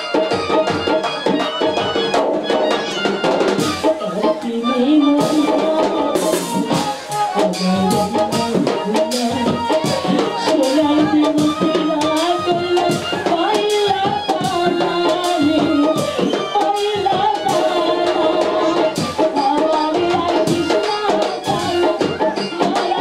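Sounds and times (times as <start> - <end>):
band music with melody: 0.0 - 23.0
drums: 0.0 - 23.0
rattling percussion: 0.0 - 23.0
woman singing into a microphone: 3.4 - 23.0.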